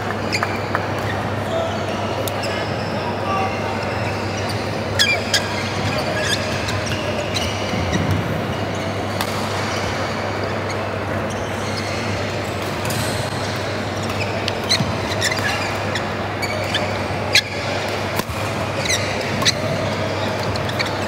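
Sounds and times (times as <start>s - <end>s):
shoe squeaks: 0.2s - 17.9s, 18.6s - 21.0s.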